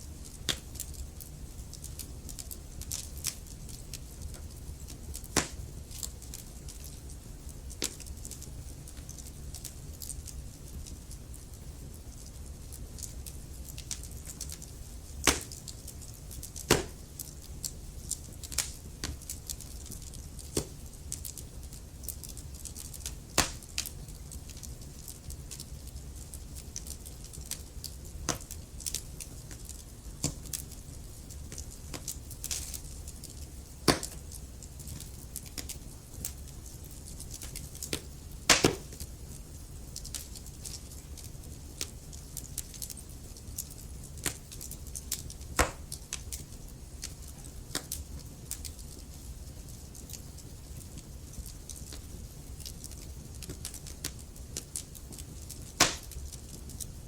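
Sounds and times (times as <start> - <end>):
log fire crackling: 0.0 - 57.0
sharp pops from fire: 0.2 - 57.0.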